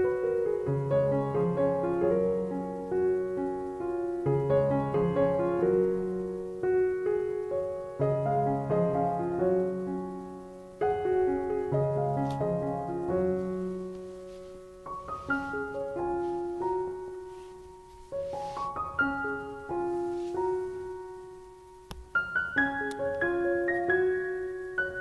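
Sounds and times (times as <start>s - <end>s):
gentle piano melody: 0.0s - 25.0s.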